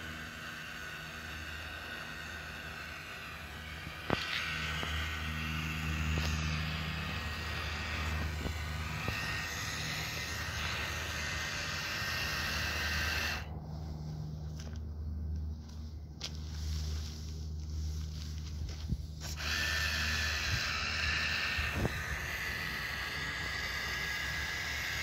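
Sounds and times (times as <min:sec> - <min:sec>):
small electric motor whine: 0:00.0 - 0:14.7, 0:16.4 - 0:25.0.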